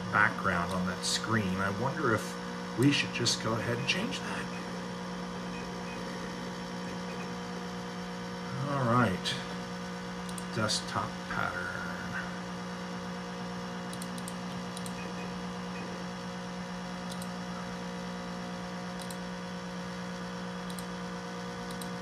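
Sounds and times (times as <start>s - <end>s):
computer fan hum: 0.0s - 22.0s.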